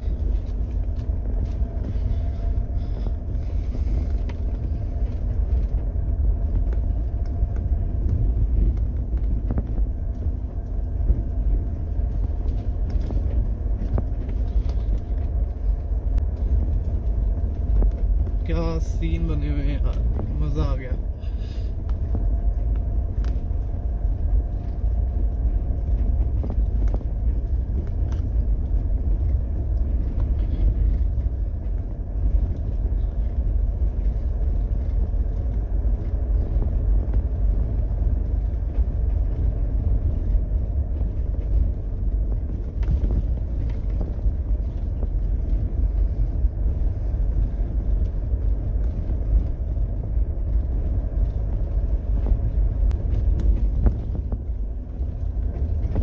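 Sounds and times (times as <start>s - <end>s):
engine and tyres rumbling: 0.0s - 56.0s.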